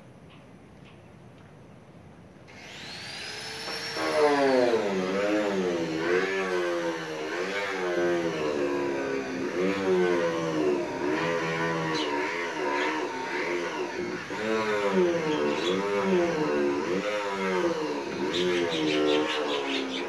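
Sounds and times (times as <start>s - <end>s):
motor running with wavering pitch: 2.5s - 20.0s.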